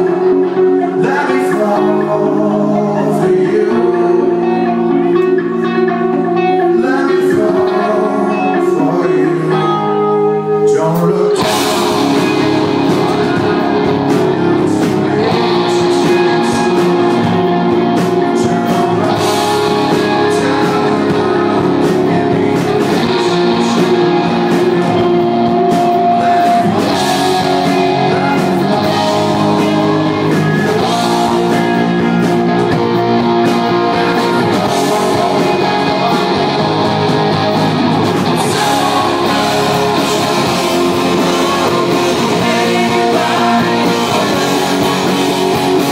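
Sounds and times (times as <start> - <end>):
bass guitar: 0.0 - 45.9
drums: 0.0 - 45.9
electric guitars: 0.0 - 45.9
lead vocal singing: 0.0 - 45.9.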